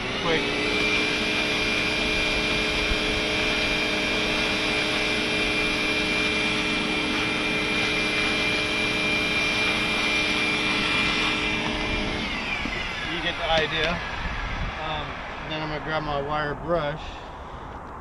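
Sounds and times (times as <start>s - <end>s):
shop vacuum running: 0.0s - 16.6s.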